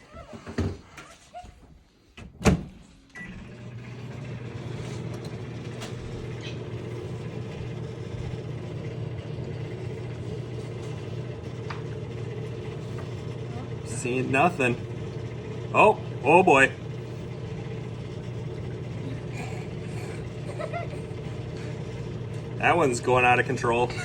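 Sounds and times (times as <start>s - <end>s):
microwave oven humming: 2.3s - 24.0s.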